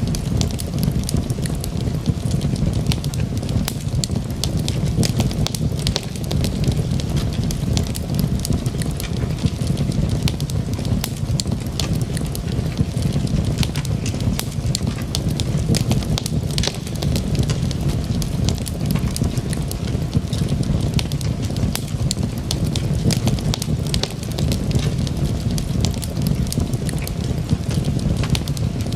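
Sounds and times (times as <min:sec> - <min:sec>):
low rumble of flames: 0:00.0 - 0:28.9
wood crackling and popping: 0:00.0 - 0:28.9.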